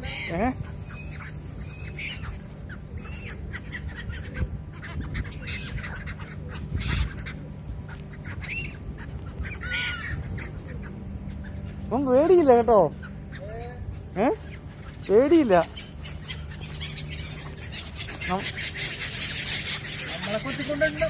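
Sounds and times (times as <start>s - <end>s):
gulls squawking: 0.0s - 21.0s
low background rumble: 0.0s - 21.0s.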